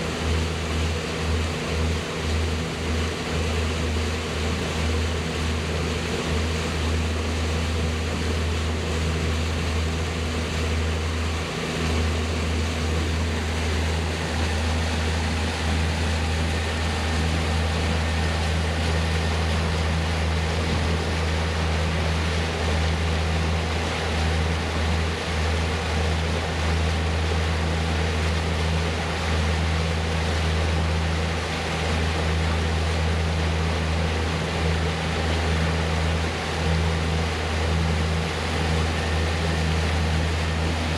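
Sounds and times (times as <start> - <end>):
boat engine droning: 0.0 - 40.9
wind and water rushing: 0.0 - 40.9.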